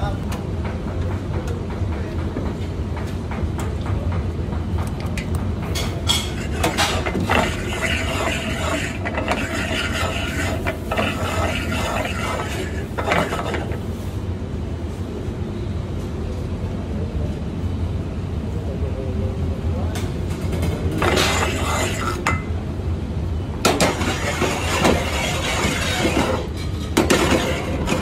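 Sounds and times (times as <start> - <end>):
steady low hum: 4.1 - 28.0.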